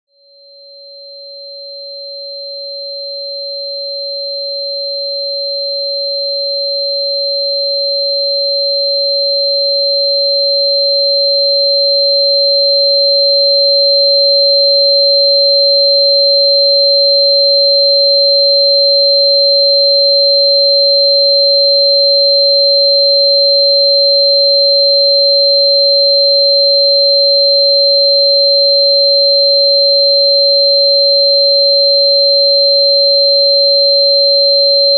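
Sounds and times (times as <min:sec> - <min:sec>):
steady sine tone: 0:00.2 - 0:34.9.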